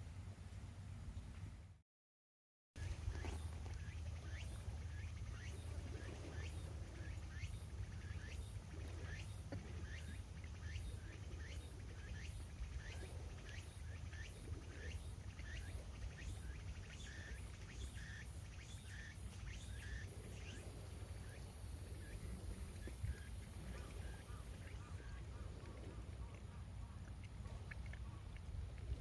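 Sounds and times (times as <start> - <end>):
bird calling: 2.8 - 28.4.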